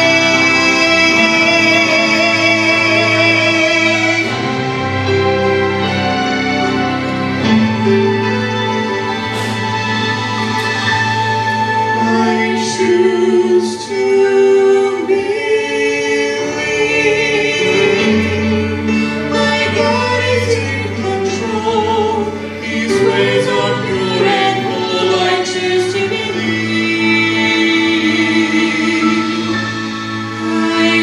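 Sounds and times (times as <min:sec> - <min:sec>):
choir singing sustained lines: 0:00.0 - 0:31.0
musical accompaniment: 0:00.0 - 0:31.0.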